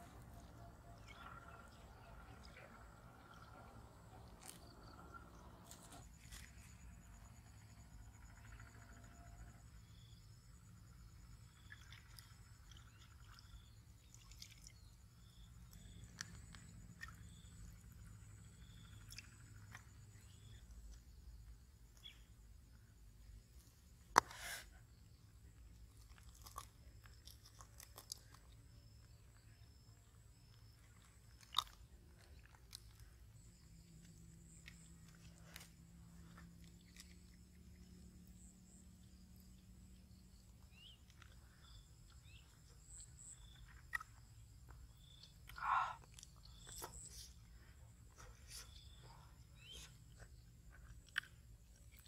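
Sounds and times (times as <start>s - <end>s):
high insect hum: 0.0s - 52.0s.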